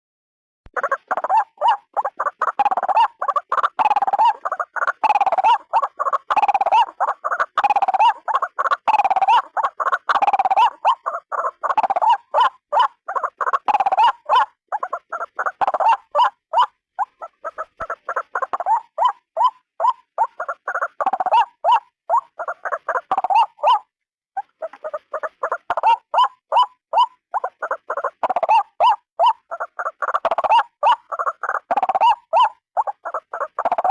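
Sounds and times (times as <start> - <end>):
waterhen calling: 0.7 - 33.9.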